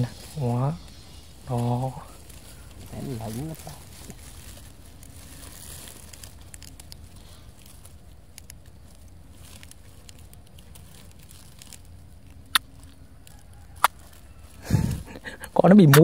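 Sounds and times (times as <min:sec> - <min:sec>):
faint ticks and crackles: 0:00.0 - 0:16.0.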